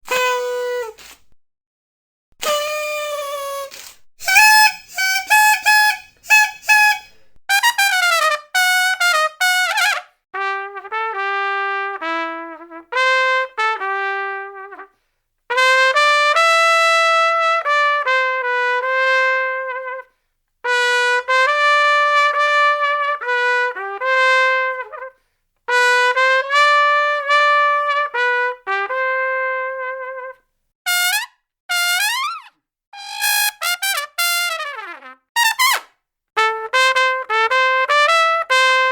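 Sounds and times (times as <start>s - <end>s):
brass horn playing phrases: 0.0s - 1.0s, 2.4s - 38.9s.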